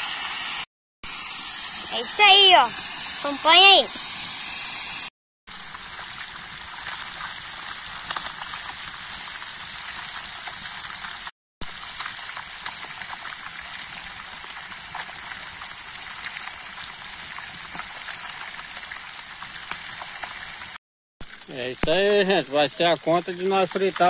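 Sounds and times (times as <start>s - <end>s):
fish deep-frying sizzle: 0.0s - 24.0s.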